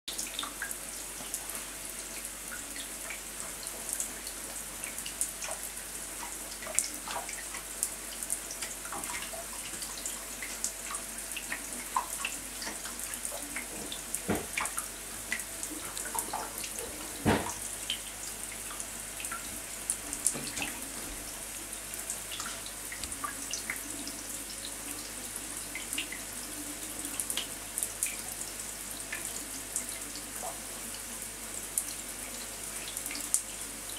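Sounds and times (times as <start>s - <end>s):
shower water on plastic tray: 0.1s - 33.9s.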